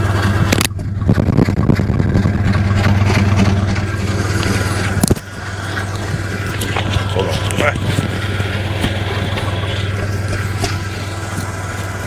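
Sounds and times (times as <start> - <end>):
car engine idling: 0.0 - 12.0
engine backfire pops: 0.0 - 12.0.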